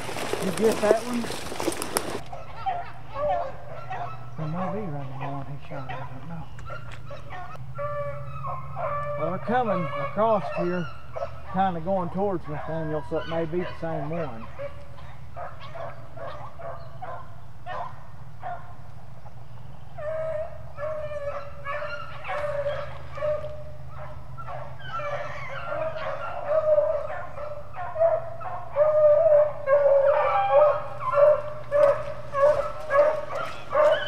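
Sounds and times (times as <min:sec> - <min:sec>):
beagles baying: 0:00.0 - 0:18.9, 0:19.8 - 0:34.0.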